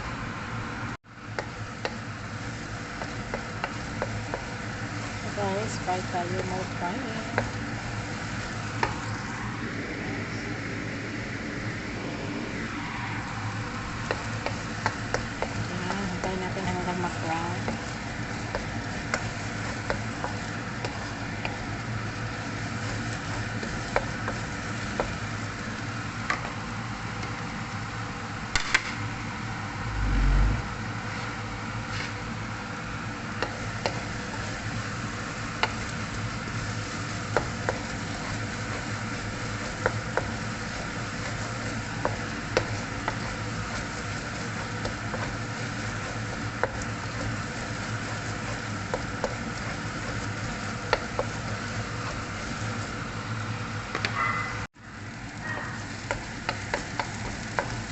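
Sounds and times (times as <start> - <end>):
chicken frying in hot oil: 0.0 - 29.9, 30.7 - 57.9.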